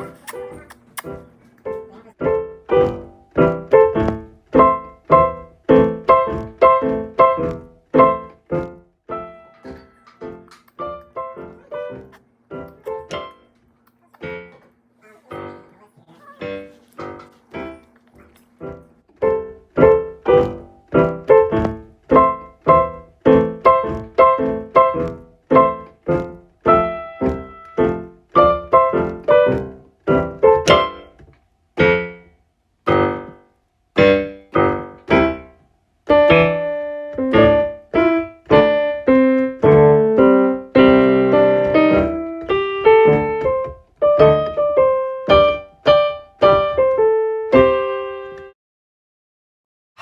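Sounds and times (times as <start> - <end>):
slow solo piano: 0.0 - 48.6.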